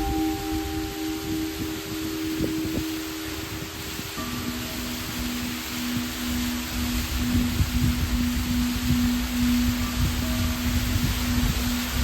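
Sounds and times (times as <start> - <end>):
ambient music with low tones: 0.0 - 12.0
steady hiss: 0.0 - 12.0.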